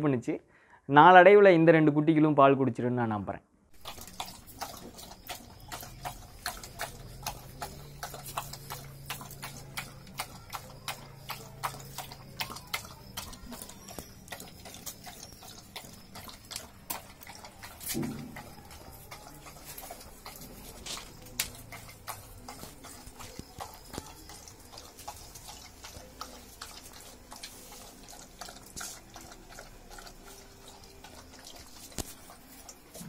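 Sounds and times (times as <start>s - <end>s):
dogs lapping milk from metal bowl: 3.8s - 33.0s.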